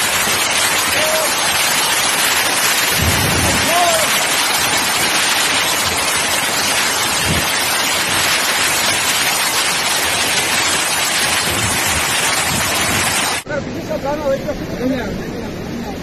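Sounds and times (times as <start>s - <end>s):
rain and hail beating down: 0.0s - 13.5s.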